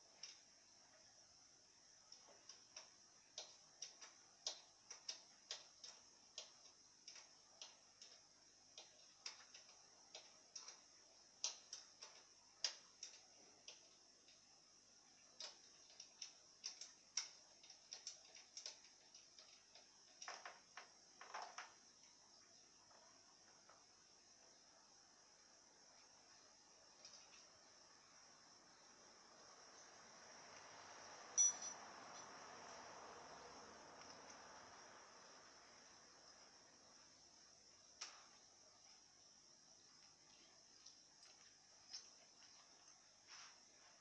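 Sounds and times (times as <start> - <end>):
faint sharp ticking: 0.0 - 44.0
high-pitched hiss: 0.0 - 44.0.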